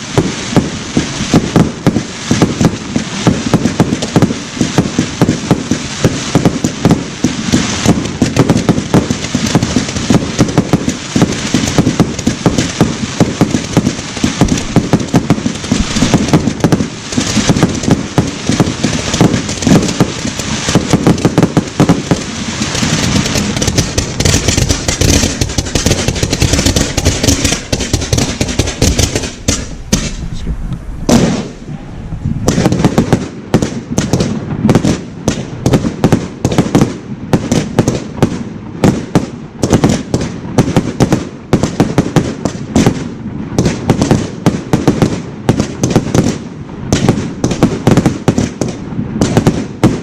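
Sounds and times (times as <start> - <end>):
fireworks bangs and crackling: 0.0 - 50.0.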